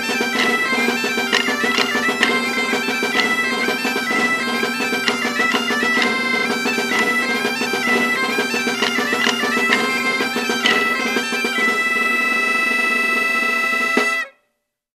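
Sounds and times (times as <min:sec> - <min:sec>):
reed wind instrument folk tune: 0:00.0 - 0:14.5.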